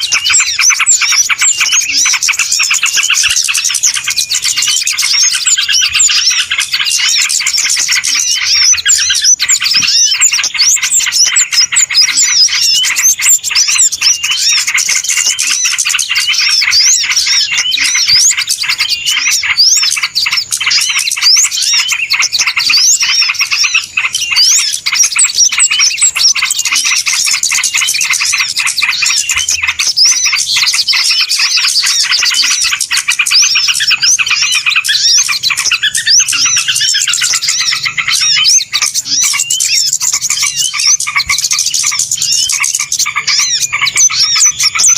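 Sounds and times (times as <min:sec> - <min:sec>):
flock of small birds chirping: 0:00.0 - 0:44.9.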